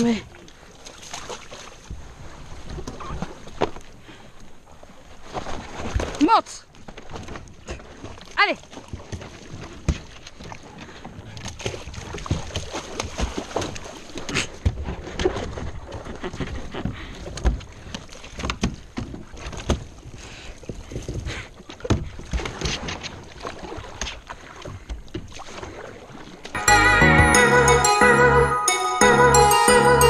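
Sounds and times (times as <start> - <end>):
paddle strokes splashing: 0.3 - 26.6.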